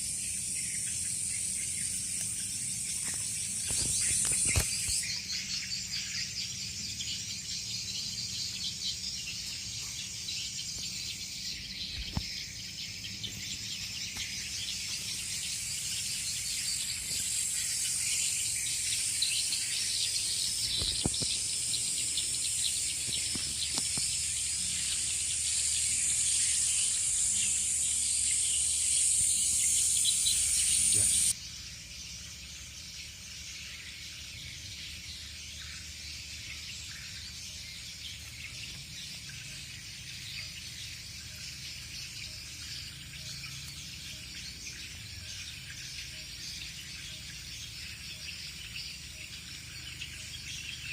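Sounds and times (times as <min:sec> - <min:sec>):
insects chirring: 0:00.0 - 0:50.9.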